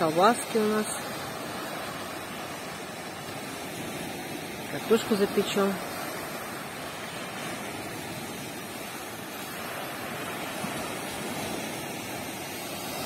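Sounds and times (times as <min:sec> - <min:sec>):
small waves breaking on sand: 0:00.0 - 0:13.0.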